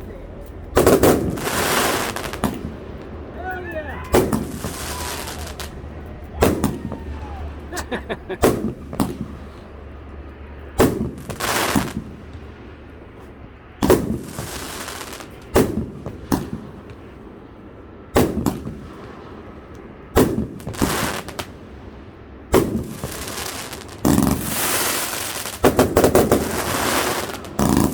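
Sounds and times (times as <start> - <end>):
crackling hiss: 0.0 - 27.9
firework reports: 0.0 - 27.9.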